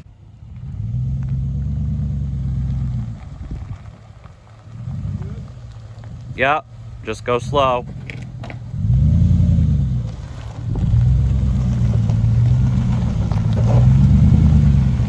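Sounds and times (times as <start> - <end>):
vehicle engine pulling under load: 0.0 - 15.0.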